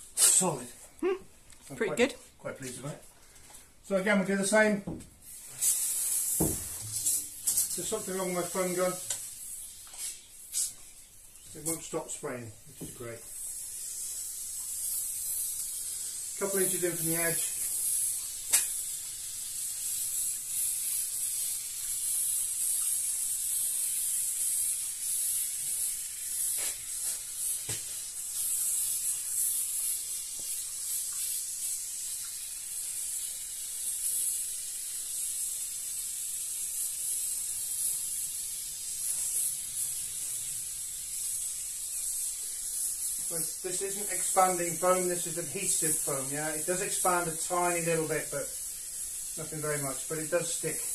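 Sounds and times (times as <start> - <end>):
foam gun hissing: 0.0 - 1.2, 3.8 - 50.9.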